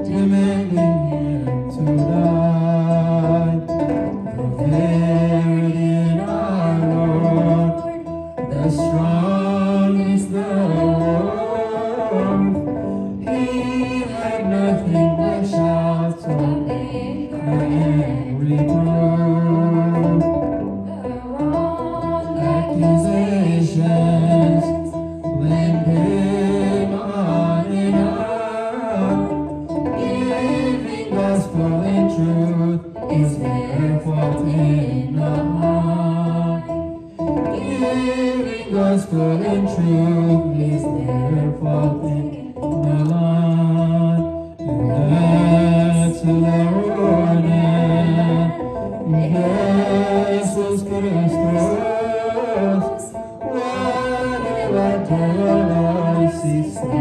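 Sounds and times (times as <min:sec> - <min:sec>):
man and woman singing a hymn: 0:00.0 - 0:03.8, 0:04.4 - 0:20.2, 0:20.9 - 0:57.0
instrumental accompaniment: 0:00.0 - 0:57.0.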